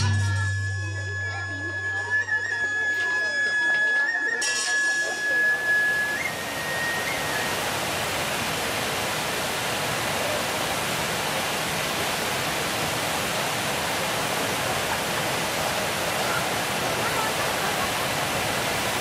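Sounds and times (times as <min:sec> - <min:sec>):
fireworks fountains hissing: 0:01.0 - 0:19.0.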